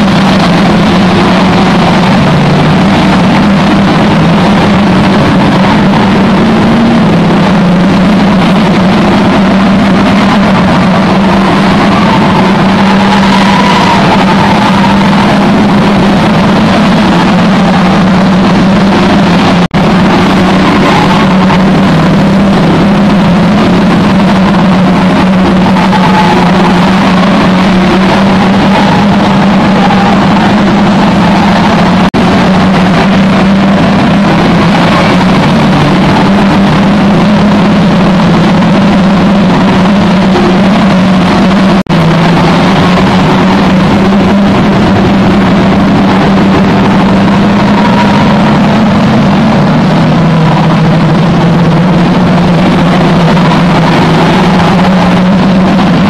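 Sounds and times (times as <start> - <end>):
stock car engines droning: 0.0 - 56.0.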